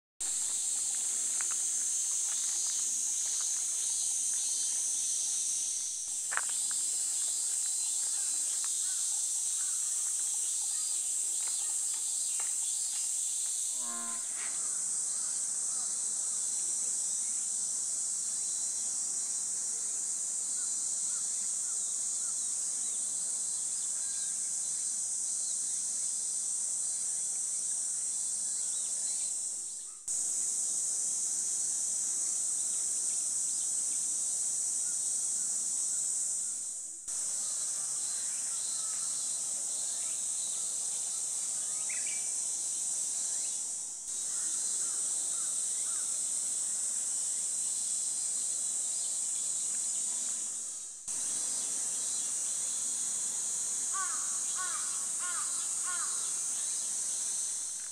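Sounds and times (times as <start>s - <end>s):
insects chorus: 0.2s - 57.9s.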